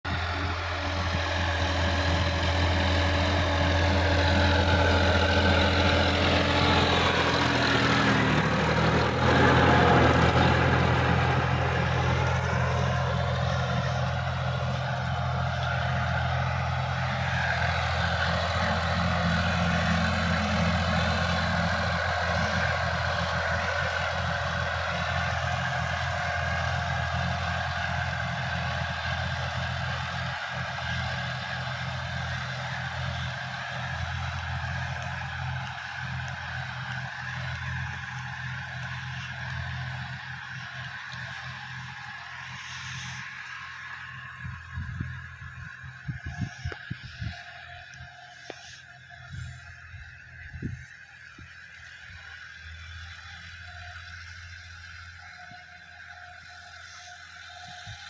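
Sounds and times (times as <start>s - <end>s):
tractor diesel engine passing: 0.0s - 58.0s.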